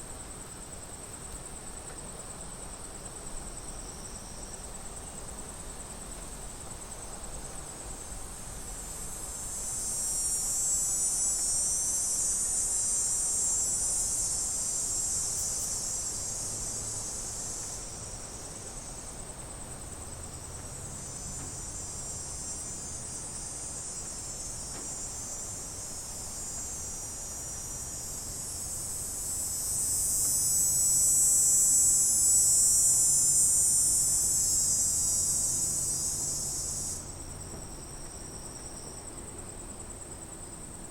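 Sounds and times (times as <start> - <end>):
cicadas buzzing: 0.1 - 40.9.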